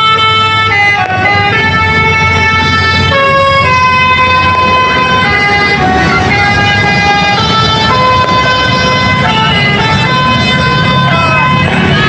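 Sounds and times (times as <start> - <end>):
multi-tone musical bus horn: 0.0 - 12.0.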